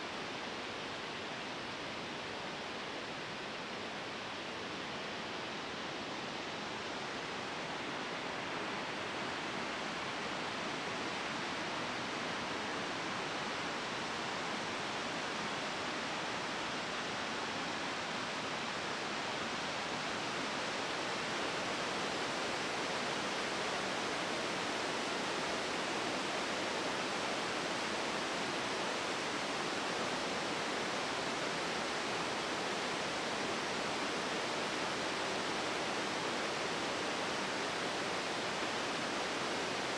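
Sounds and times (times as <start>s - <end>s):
rushing water of falls and rapids: 0.0s - 39.9s.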